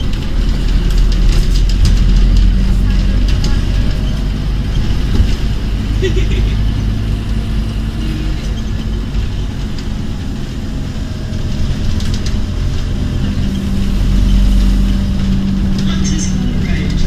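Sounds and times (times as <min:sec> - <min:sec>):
bus diesel engine rumble: 0:00.0 - 0:17.0
droning note: 0:00.0 - 0:17.0.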